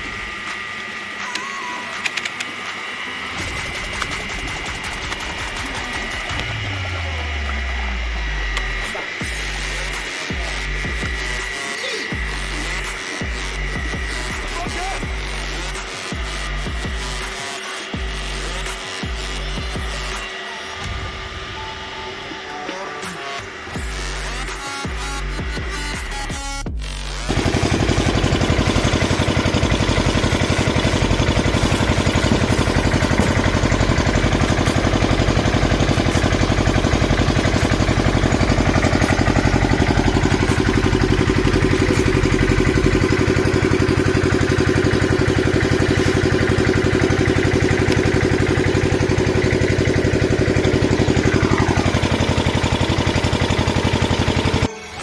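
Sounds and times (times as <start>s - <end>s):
engine running steadily: 0.0s - 54.8s.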